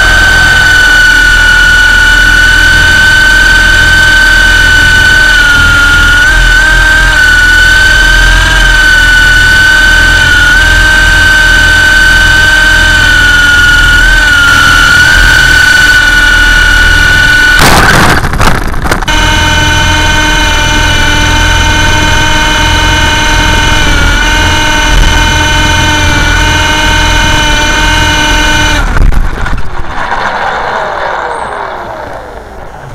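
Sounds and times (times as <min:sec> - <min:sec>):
toy helicopter motors whining: 0:00.0 - 0:29.0
rotors winding down: 0:00.0 - 0:32.9.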